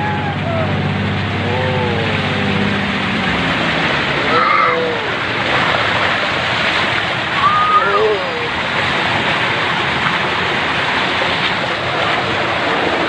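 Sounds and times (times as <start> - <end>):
floodwater rushing and splashing: 0.0 - 13.0
lorry engine low hum: 0.0 - 13.0.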